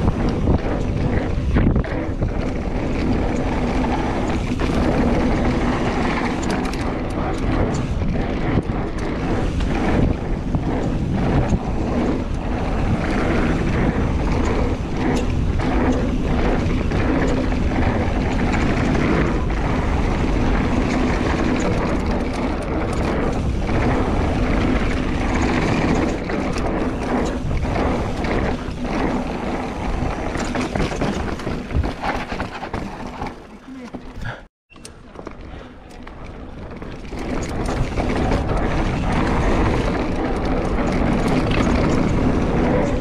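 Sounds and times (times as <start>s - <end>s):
bike clattering over bumps: 0.0s - 43.0s
bike tyres rolling on dirt: 0.0s - 43.0s
wind on microphone: 0.0s - 43.0s.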